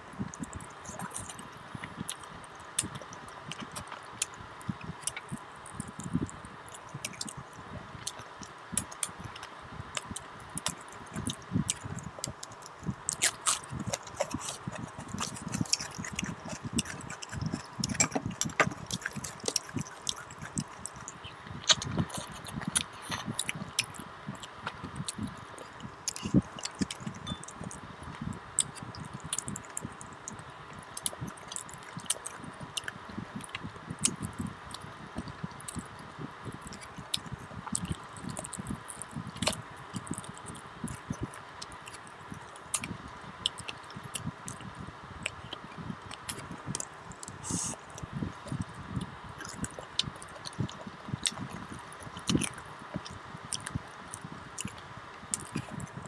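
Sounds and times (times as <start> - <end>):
wet chewing and lip smacks: 0.2 - 56.0
mouth clicks: 8.0 - 56.0.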